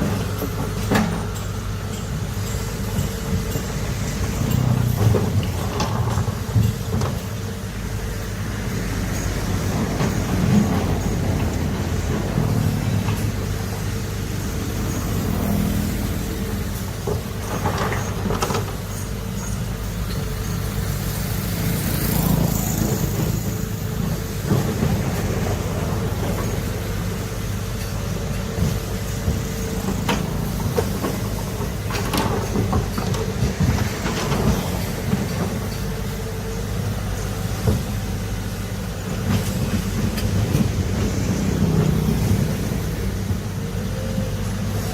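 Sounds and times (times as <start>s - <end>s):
diesel excavator engine drone: 0.0s - 44.9s.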